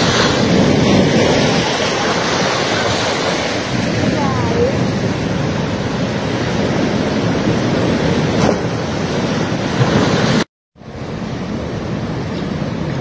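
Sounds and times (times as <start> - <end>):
surf breaking over rocks: 0.0 - 13.0.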